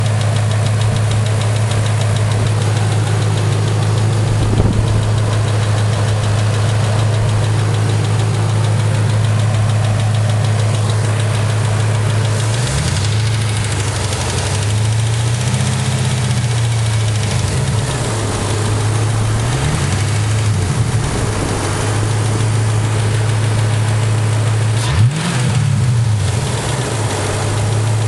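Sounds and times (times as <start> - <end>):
rapid valvetrain ticking: 0.0 - 24.8
car engine idling: 0.0 - 28.0.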